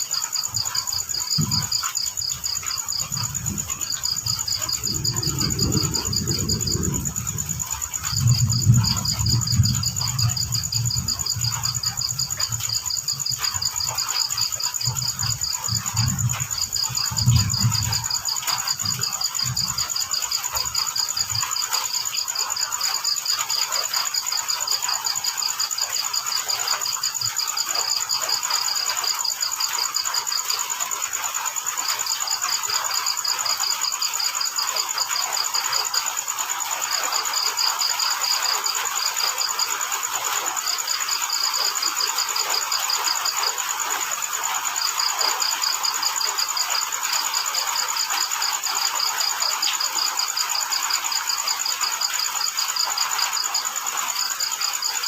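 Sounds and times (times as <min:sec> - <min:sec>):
cricket chirping in pulses: 0:00.0 - 0:55.0
cricket trilling: 0:00.0 - 0:55.0
rain hissing: 0:00.0 - 0:55.0.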